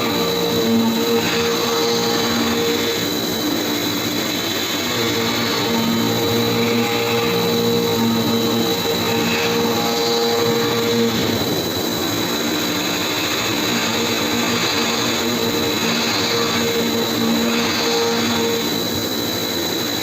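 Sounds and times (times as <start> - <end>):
milling machine whine: 0.0 - 20.0
noisy hiss: 0.0 - 20.0.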